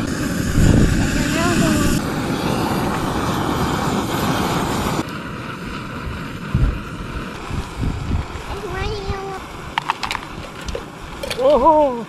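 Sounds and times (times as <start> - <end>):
camp stove burner roaring: 0.0 - 12.0.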